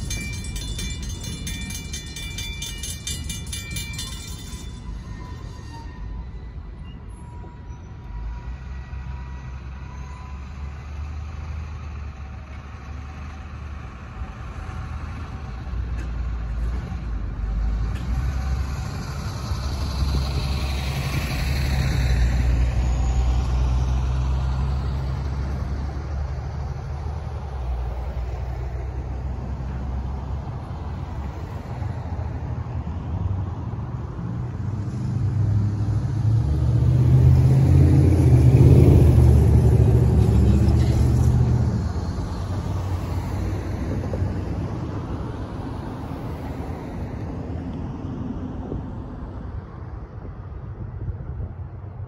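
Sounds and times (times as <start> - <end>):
cars passing close by: 0.0 - 52.0
truck passing: 0.0 - 52.0.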